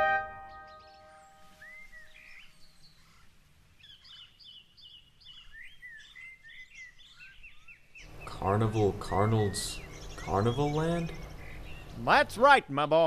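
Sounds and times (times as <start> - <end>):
birds chirping and twittering: 0.0 - 12.8.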